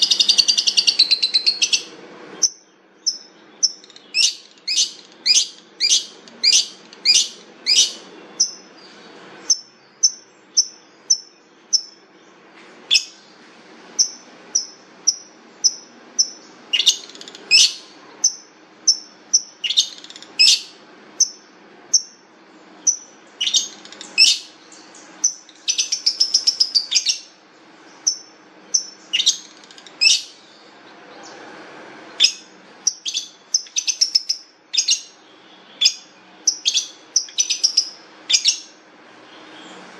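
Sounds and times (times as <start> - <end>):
bird singing sharp chirps and trills: 0.0 - 13.2, 14.0 - 31.4, 32.2 - 38.8.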